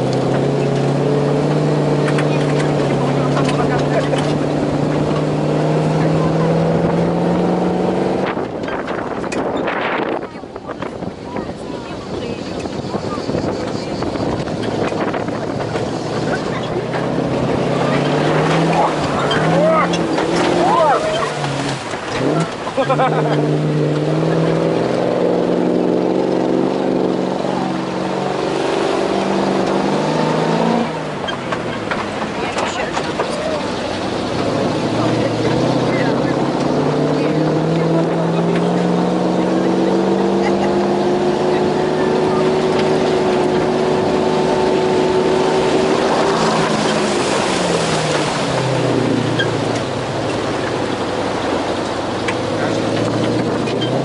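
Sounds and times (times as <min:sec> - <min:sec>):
truck engine pulling hard: 0:00.0 - 0:54.0
water rushing and splashing: 0:00.0 - 0:54.0.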